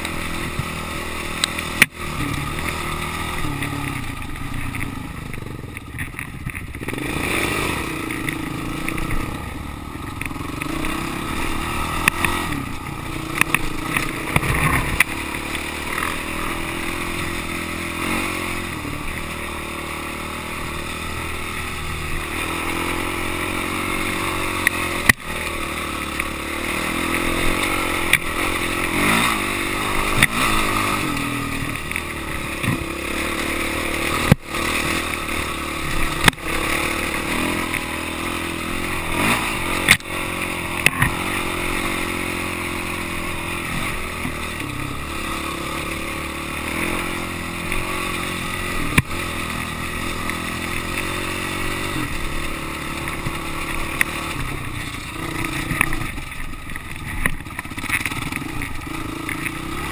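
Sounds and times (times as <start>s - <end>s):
dirt bike engine under load: 0.0s - 19.6s, 20.6s - 59.9s.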